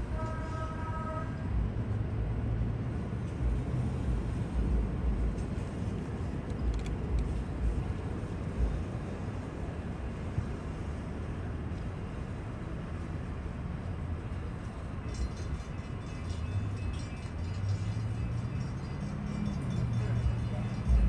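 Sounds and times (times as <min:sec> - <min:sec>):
trolley rumbling past: 0:00.0 - 0:21.0.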